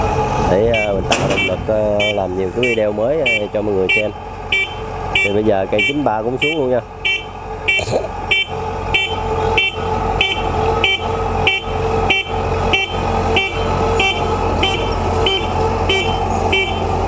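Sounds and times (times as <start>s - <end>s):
combine harvester engine running: 0.0s - 17.0s
two-tone warning beeper: 0.7s - 16.9s.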